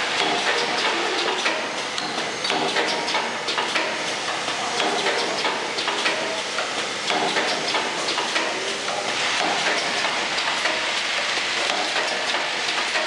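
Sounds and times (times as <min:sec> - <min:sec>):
machine clatter: 0:00.0 - 0:13.0.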